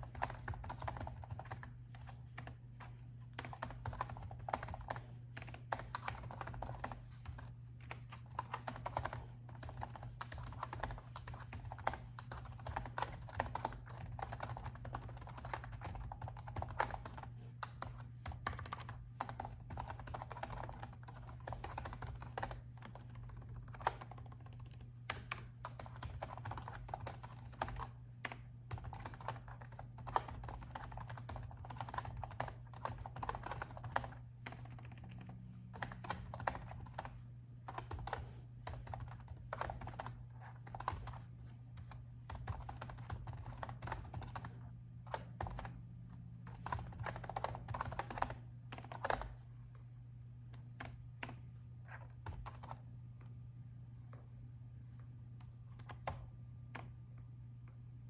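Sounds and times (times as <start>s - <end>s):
laptop keyboard typing: 0.0s - 49.5s, 50.5s - 52.9s, 55.4s - 57.0s
steady low hum: 0.0s - 58.0s.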